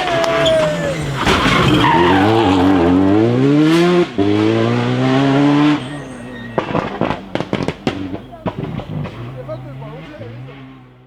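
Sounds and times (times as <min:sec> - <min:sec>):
rally car engine at full throttle: 0:00.0 - 0:11.0.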